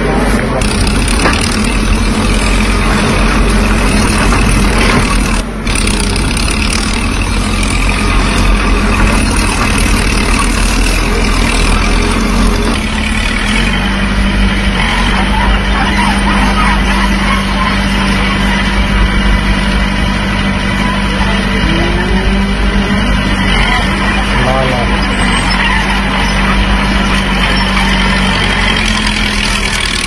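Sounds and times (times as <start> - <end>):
heavy diesel machinery engines: 0.0 - 30.0.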